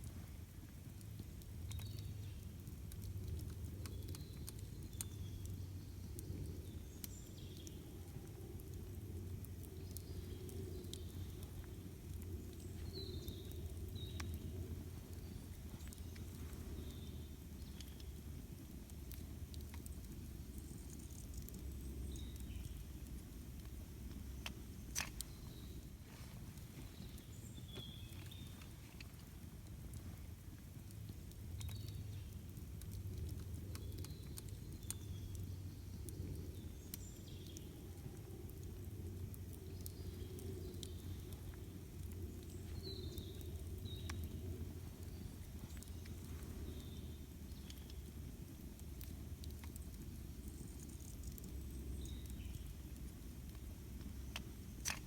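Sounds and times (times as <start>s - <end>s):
campfire crackling and popping: 0.0s - 55.0s
steady low rumble: 0.0s - 55.0s.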